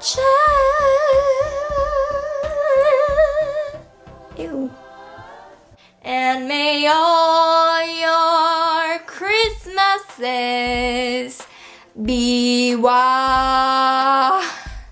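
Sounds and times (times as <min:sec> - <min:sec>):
woman singing unaccompanied: 0:00.0 - 0:04.8, 0:06.0 - 0:11.4, 0:12.0 - 0:14.7.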